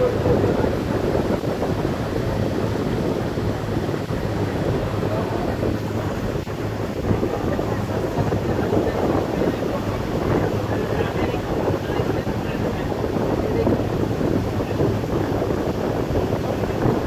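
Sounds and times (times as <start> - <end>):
low engine hum: 0.0 - 17.0
water wash: 0.0 - 17.0
wind buffeting microphone: 0.0 - 17.0.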